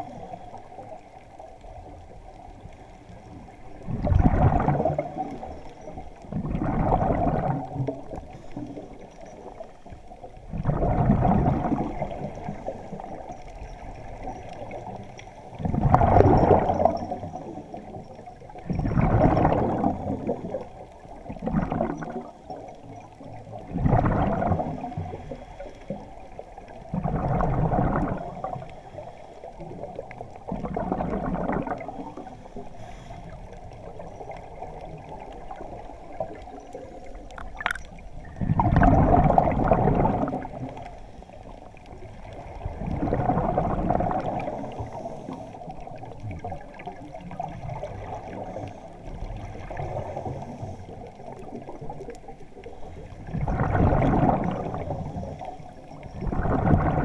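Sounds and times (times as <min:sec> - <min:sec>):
underwater exhaust bubbles gurgling: 0:00.0 - 0:57.0.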